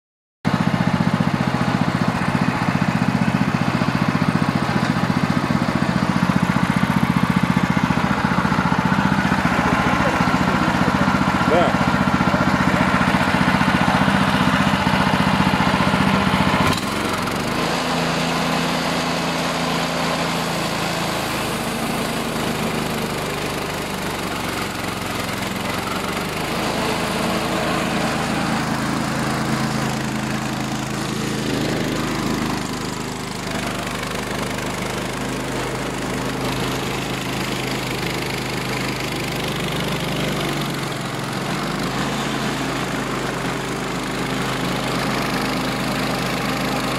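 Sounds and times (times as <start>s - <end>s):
sawmill engine running: 0.5s - 46.9s.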